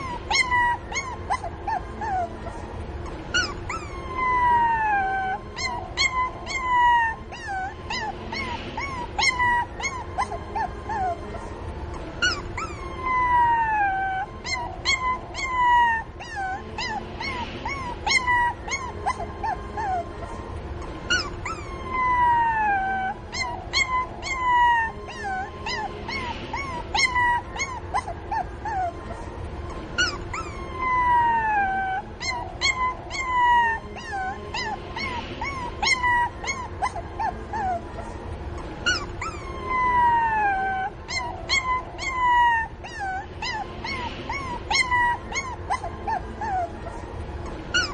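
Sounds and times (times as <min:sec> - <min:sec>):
puppy yelping: 0:00.0 - 0:11.3, 0:11.9 - 0:20.1, 0:20.8 - 0:29.1, 0:29.7 - 0:38.0, 0:38.6 - 0:47.9
puppy whining: 0:00.0 - 0:47.9.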